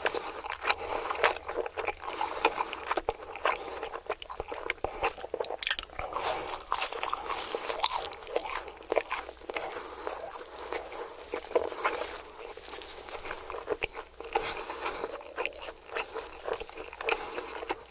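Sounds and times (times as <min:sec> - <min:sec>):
chewing crispy fried food: 0:00.0 - 0:17.9.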